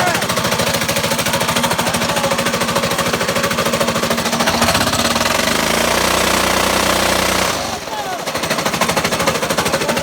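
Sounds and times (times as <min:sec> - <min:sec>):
engine with metallic knocking: 0:00.0 - 0:10.0.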